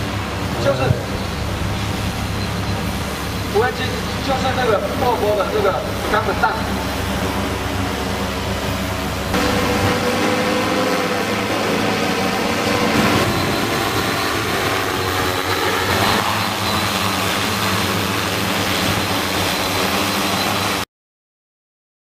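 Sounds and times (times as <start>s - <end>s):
drone propellers buzzing: 0.0s - 20.9s.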